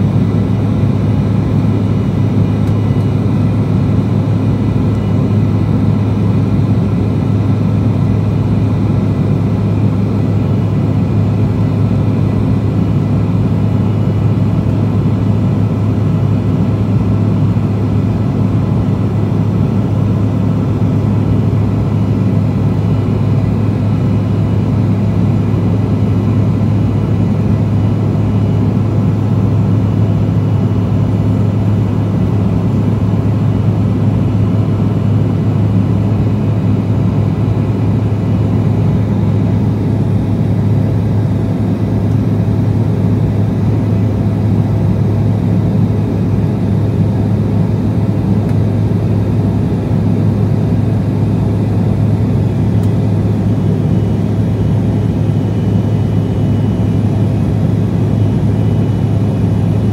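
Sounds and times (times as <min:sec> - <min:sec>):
jet engines droning in cabin: 0:00.0 - 0:59.9.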